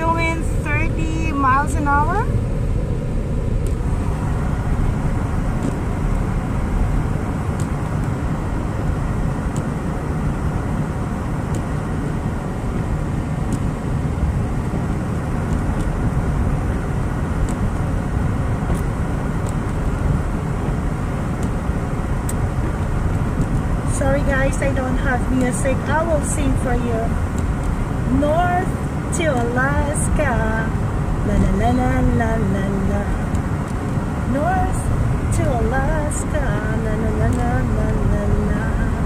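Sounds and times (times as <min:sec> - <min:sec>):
car cabin road rumble: 0:00.0 - 0:39.0.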